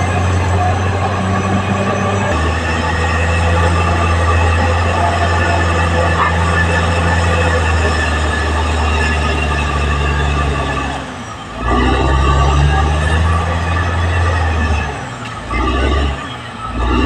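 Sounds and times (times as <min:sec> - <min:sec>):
bulldozer diesel engine under load: 0:00.0 - 0:17.0.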